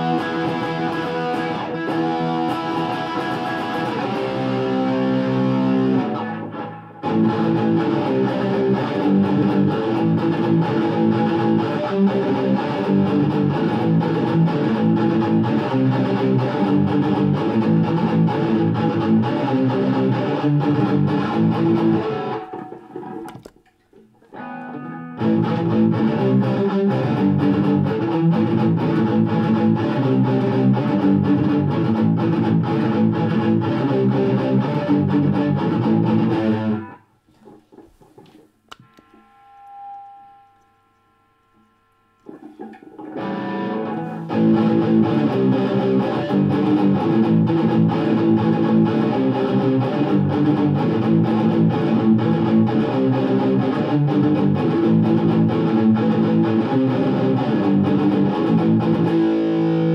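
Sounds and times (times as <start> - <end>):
overdriven electric guitar: 0.0 - 59.9.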